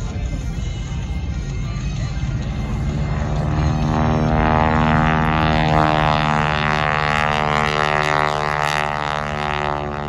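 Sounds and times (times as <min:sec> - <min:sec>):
biplane engine droning: 0:00.0 - 0:10.0.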